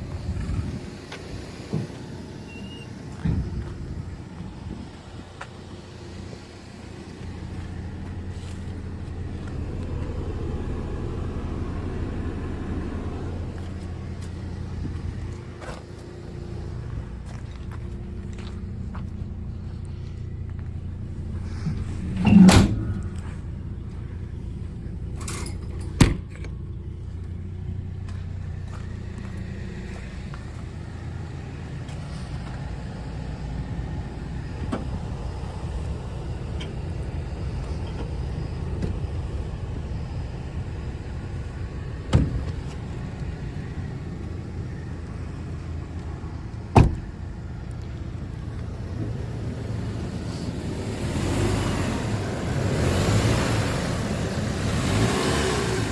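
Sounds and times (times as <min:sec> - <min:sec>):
truck engine idling: 0:00.0 - 0:55.9.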